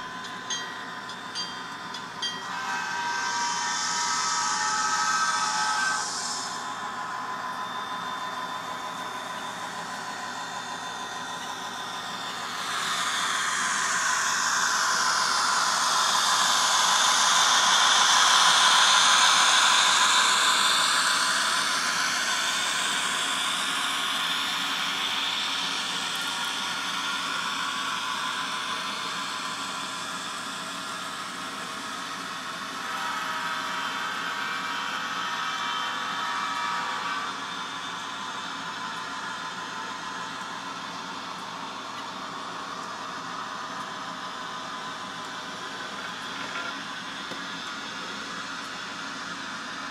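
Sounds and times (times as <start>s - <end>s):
diesel locomotive engine hum: 0.0s - 49.9s.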